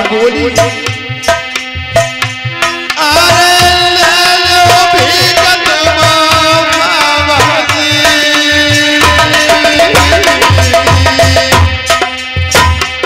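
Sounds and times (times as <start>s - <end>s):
hand drum steady beat: 0.0s - 13.0s
harmonium sustained notes: 0.0s - 13.0s
man singing: 0.0s - 13.0s.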